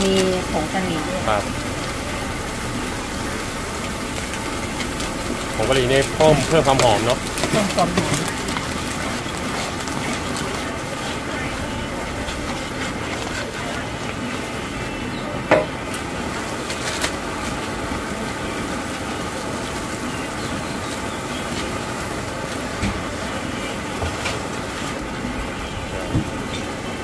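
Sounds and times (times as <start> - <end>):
gas burner rushing: 0.0 - 27.0.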